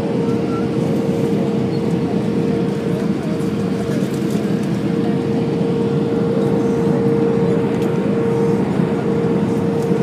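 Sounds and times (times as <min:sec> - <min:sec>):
airplane cabin engine and airflow rush: 0:00.0 - 0:10.0.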